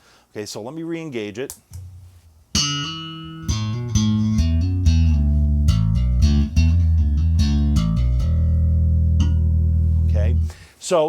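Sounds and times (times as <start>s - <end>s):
electric bass guitar notes: 1.7s - 10.7s.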